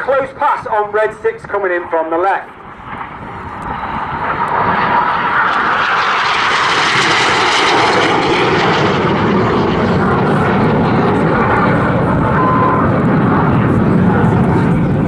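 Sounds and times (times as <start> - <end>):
jet aircraft passing low: 0.0 - 15.0.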